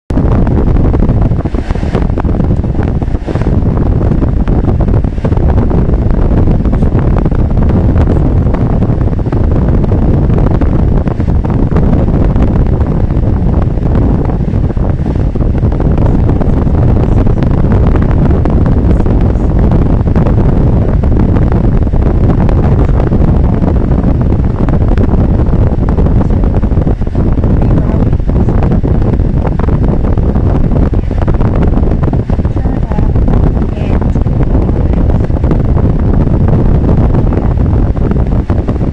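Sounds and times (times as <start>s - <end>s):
car cabin engine and road rumble: 0.1s - 38.9s.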